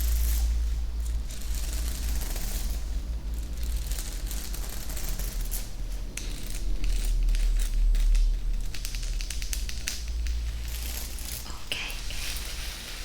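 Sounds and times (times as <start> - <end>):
rapid irregular clicks and crackles: 0.0 - 13.0.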